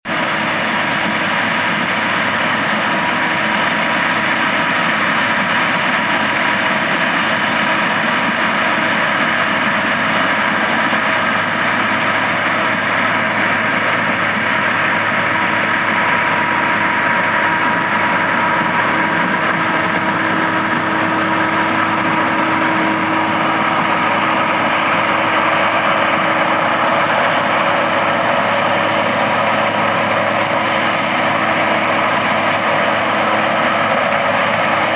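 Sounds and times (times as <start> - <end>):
combine harvester droning: 0.1 - 34.9.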